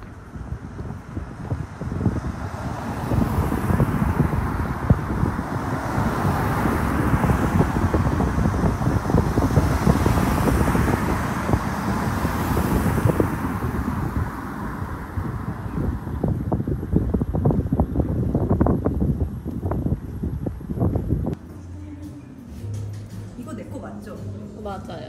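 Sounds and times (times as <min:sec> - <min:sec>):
wind buffeting microphone: 0:00.0 - 0:21.4
cars driving past: 0:00.0 - 0:25.0.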